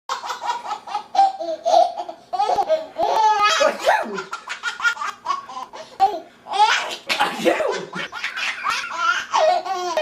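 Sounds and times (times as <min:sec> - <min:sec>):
baby laughing: 0:00.1 - 0:10.0.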